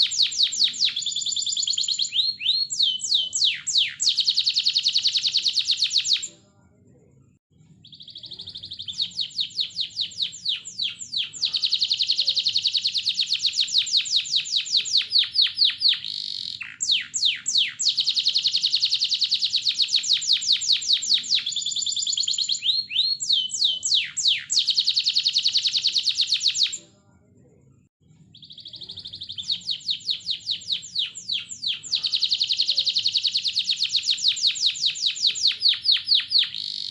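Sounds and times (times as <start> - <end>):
canary singing trills: 0.0 - 6.3, 7.6 - 26.9, 28.2 - 36.9.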